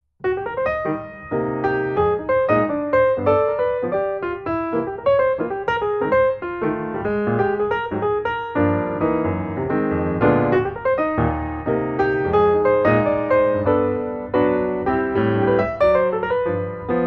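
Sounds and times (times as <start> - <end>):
piano music: 0.2 - 17.0.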